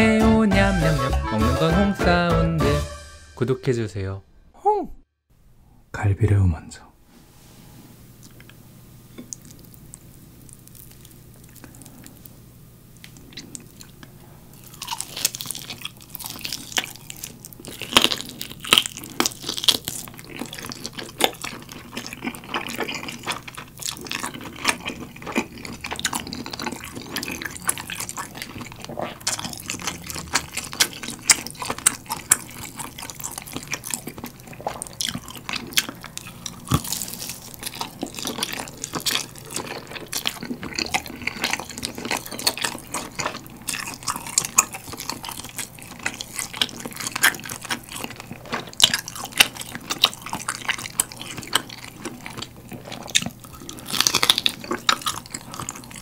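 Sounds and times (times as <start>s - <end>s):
chewing and crunching meat: 8.2s - 56.0s.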